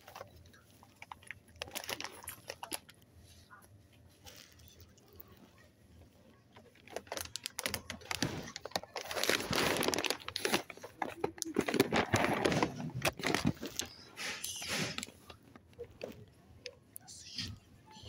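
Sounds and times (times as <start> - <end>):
crinkling and rustling: 0.0 - 17.7.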